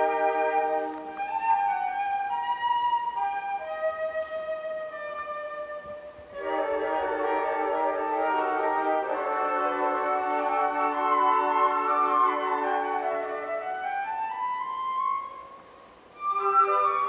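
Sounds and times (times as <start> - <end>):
flute ensemble playing chords: 0.0 - 17.0.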